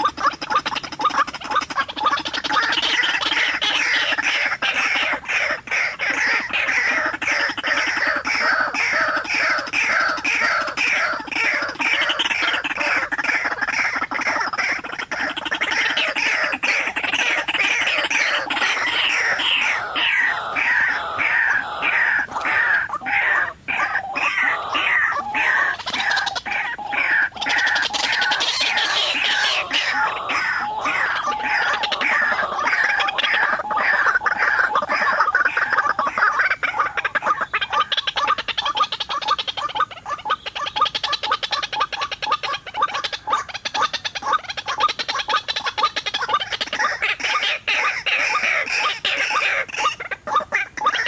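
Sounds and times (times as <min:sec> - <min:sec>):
waterhens calling: 0:00.0 - 0:51.0.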